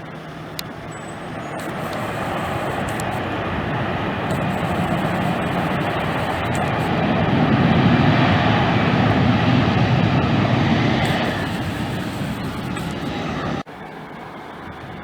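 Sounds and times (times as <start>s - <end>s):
airliner engines passing: 0.0s - 15.0s.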